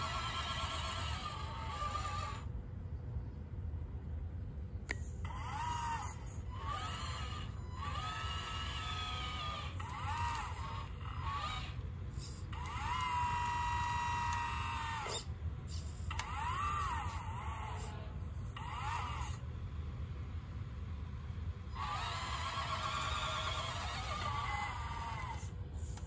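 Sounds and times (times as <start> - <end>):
electric motor and pump whining: 0.0 - 2.6, 4.9 - 19.6, 21.6 - 26.0.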